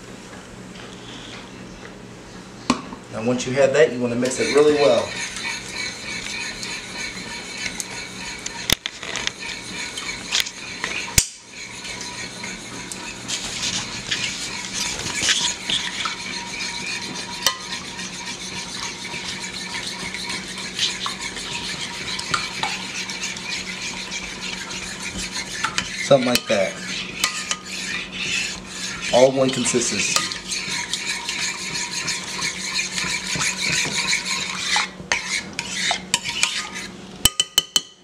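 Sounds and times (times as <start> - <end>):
spoon stirring wet mix in dish: 3.4 - 38.0.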